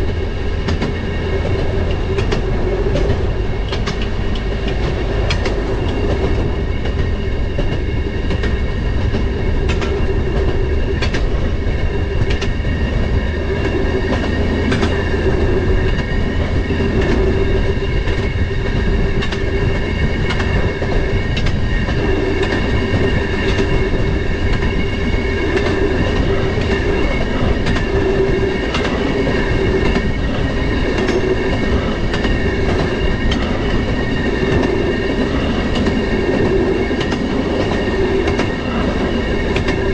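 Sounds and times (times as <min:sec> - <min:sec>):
railroad motorcar engine drone: 0:00.0 - 0:39.9
wheels clicking over rail joints: 0:00.0 - 0:39.9.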